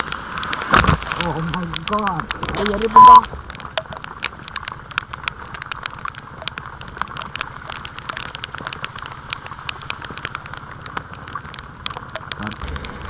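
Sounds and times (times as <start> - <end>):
sharp clicks and ticks: 0.0 - 13.0.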